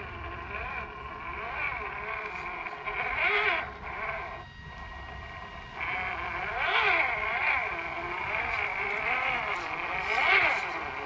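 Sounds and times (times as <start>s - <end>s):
electric motor and gearbox whine: 0.0s - 11.0s.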